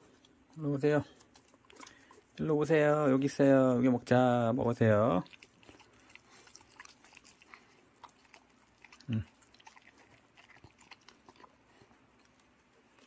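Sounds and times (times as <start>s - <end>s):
dogs chewing and licking: 0.0s - 13.0s.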